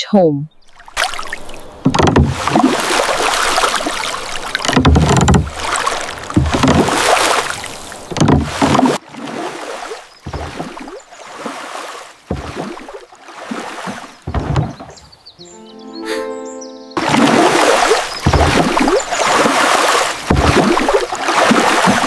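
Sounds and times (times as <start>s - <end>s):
water splashing from rowing: 0.6s - 15.4s, 17.0s - 22.0s.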